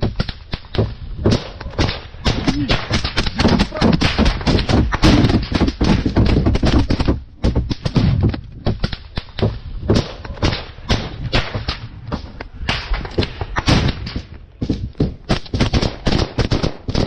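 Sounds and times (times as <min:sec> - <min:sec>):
camera thumps and scraping: 0:00.0 - 0:15.8
gunshots cracking: 0:00.6 - 0:17.0.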